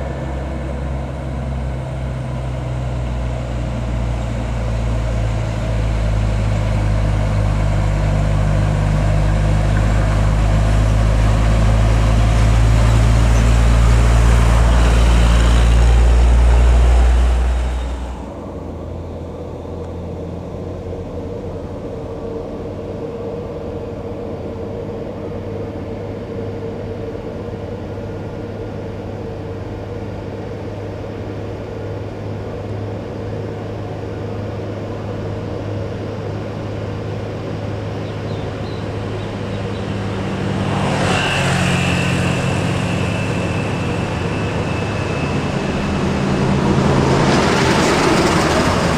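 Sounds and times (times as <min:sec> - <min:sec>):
steady engine drone: 0:00.0 - 0:48.9
truck diesel engine labouring: 0:00.0 - 0:48.9.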